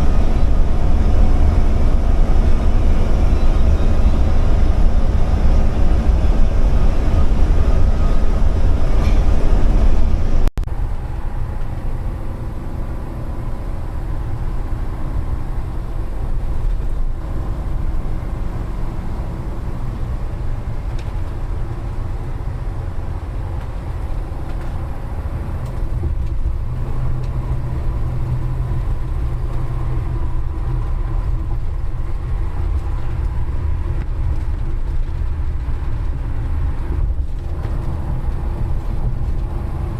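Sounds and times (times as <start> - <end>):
faint engine hum: 0.0 - 39.9
vehicle driving rumble: 0.0 - 39.9.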